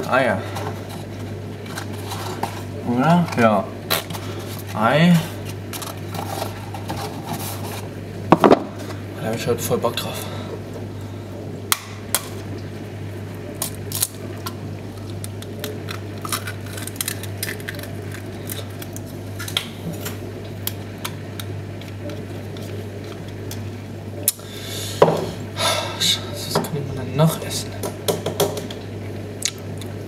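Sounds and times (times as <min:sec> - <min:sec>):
fridge low hum: 0:00.0 - 0:30.0.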